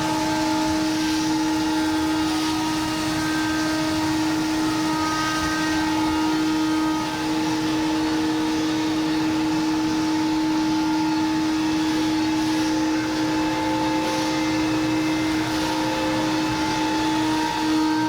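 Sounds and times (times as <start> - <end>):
router spindle whining: 0.0 - 18.0.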